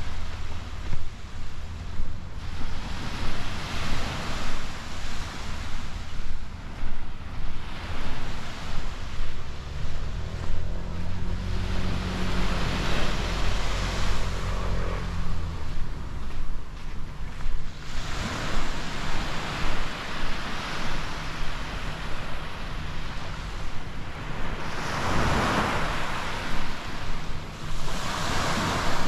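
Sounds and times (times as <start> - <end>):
sea waves washing onto shore: 0.0 - 29.0
wind buffeting microphone: 0.0 - 29.0.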